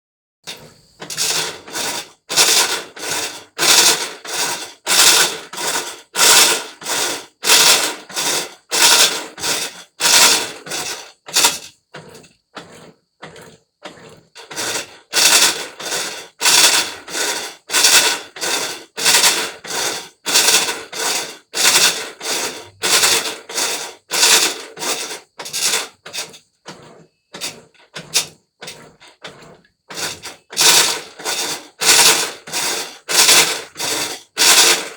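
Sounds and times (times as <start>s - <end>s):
washing machine rattling and grinding: 0.4s - 34.9s.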